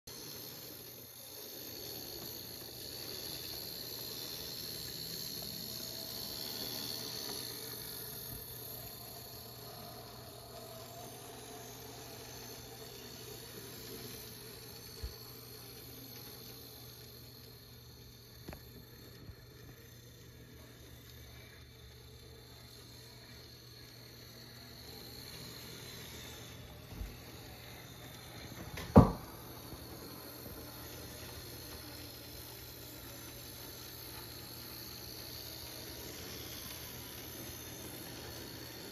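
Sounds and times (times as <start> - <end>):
model train motor whine: 0.0 - 38.9
faint hiss: 0.1 - 38.9.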